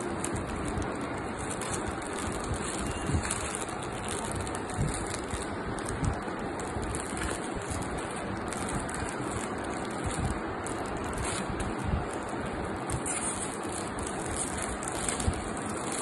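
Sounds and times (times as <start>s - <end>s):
plastic packaging crinkling: 0.0s - 16.0s
steady noisy hiss: 0.0s - 16.0s.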